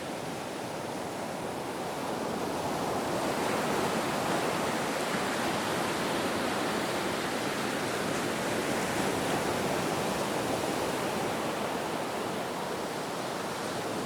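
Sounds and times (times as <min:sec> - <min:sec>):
ocean waves surf: 0:00.0 - 0:14.0.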